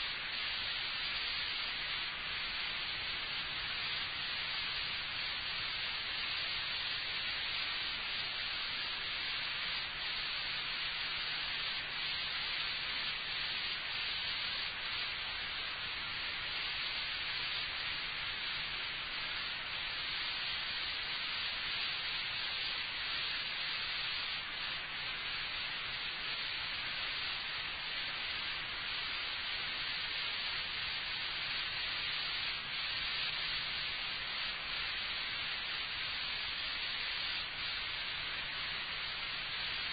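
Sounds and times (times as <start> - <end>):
recording hiss: 0.0 - 39.9.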